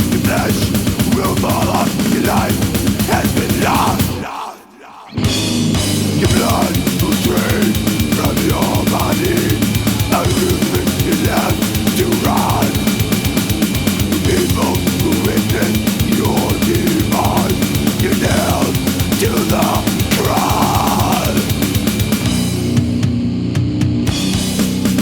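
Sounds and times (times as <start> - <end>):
death metal music: 0.0 - 25.0.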